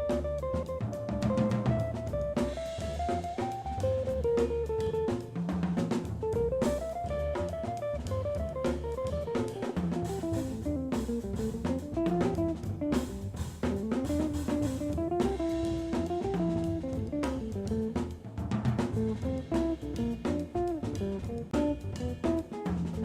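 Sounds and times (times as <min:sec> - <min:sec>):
drum kit: 0:00.0 - 0:23.0
guitar melody: 0:00.0 - 0:23.0
walking bass line: 0:00.0 - 0:23.0.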